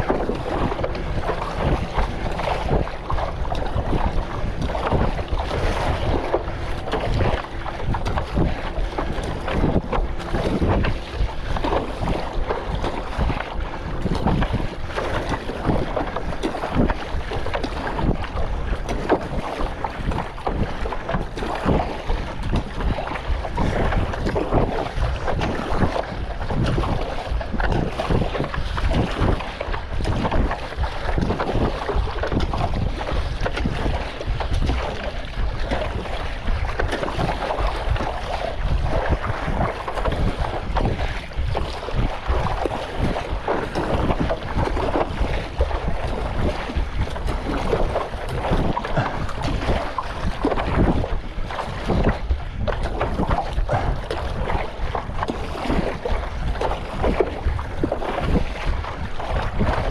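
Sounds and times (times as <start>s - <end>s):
choppy water splashing: 0.0s - 59.9s
wind buffeting microphone: 0.0s - 59.9s.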